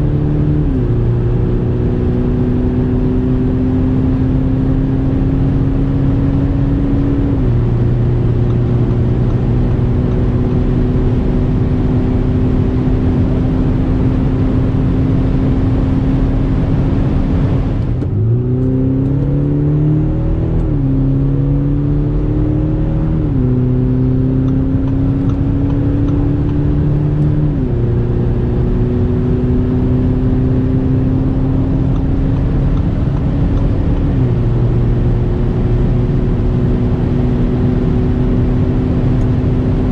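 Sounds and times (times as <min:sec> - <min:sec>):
diesel car engine accelerating: 0:00.0 - 0:39.9
road and wind noise: 0:00.0 - 0:39.9.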